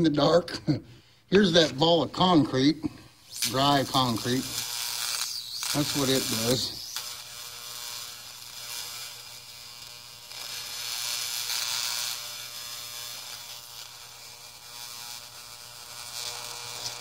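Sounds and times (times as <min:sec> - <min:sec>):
high-voltage arc buzzing and crackling: 0:01.4 - 0:17.0.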